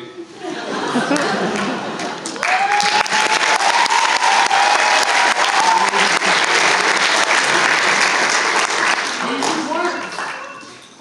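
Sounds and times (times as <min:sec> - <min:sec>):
audience applause: 0:01.0 - 0:10.7.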